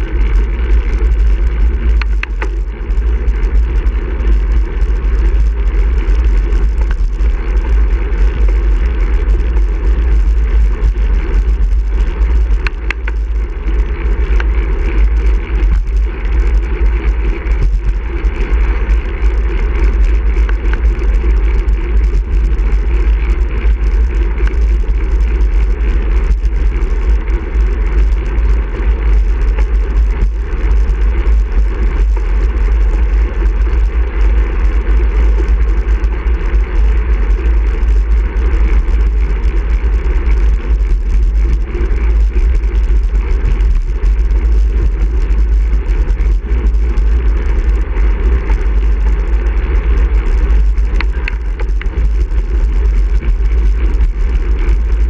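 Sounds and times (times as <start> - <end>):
tyres humming on asphalt: 0.0 - 55.0.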